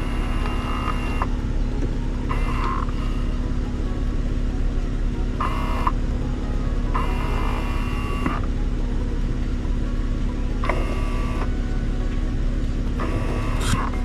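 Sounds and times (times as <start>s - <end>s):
van engine hum: 0.0s - 14.0s.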